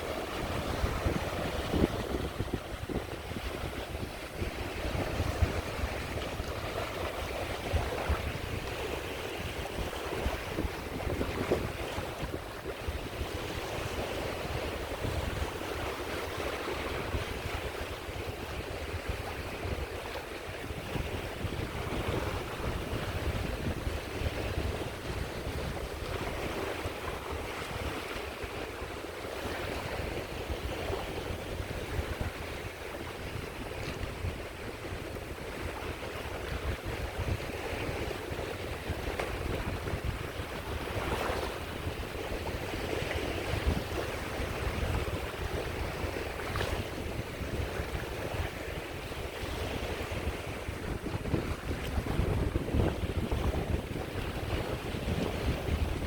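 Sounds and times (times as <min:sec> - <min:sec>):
sea waves breaking on shore: 0:00.0 - 0:56.0
wind rumble on microphone: 0:00.0 - 0:56.0.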